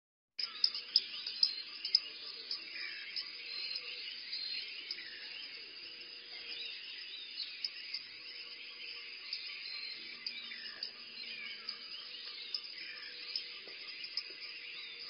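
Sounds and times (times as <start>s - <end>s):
insects calling: 0.4s - 15.0s
small birds chirping: 0.4s - 15.0s.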